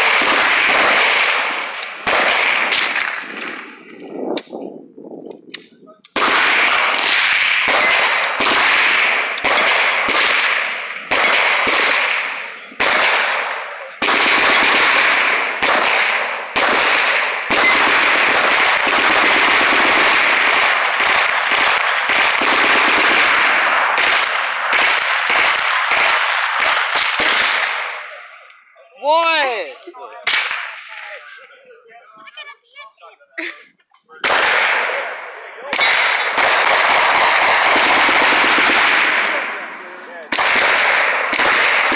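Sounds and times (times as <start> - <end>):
gunshots with echo: 0.0 - 4.5, 6.1 - 28.4, 30.3 - 31.3, 34.2 - 41.9.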